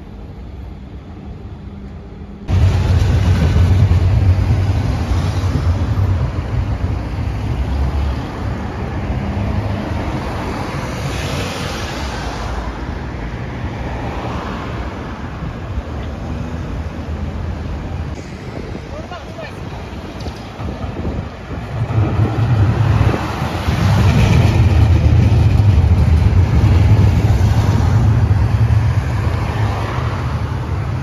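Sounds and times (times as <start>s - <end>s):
tram passing with motor hum: 0.0s - 31.0s
car passing with tyre noise: 2.5s - 31.0s.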